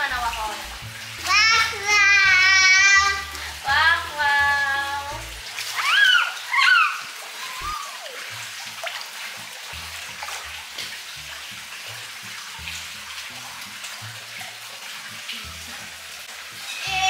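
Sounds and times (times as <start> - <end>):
faint splashes: 0.0 - 17.0
pool water lapping: 0.0 - 17.0.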